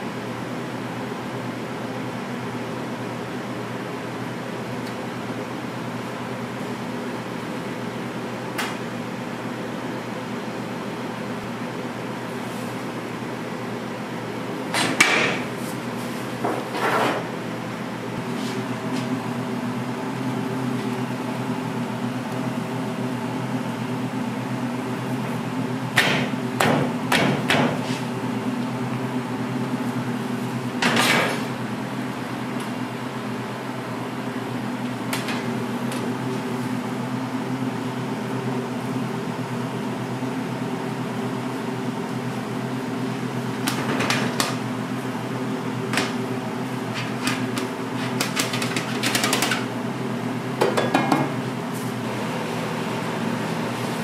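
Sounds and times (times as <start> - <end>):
electric hum of kitchen equipment: 0.0 - 54.0.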